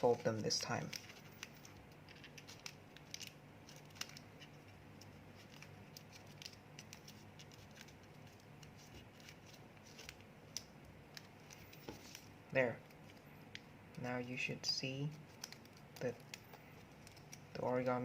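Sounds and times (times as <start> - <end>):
paper folding and rustling: 0.0 - 13.3, 15.1 - 17.9
low steady hum: 0.0 - 18.0.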